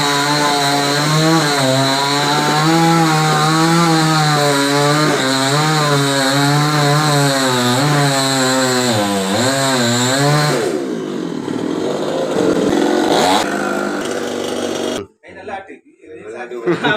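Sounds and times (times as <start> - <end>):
chainsaw cutting wood: 0.0 - 15.1.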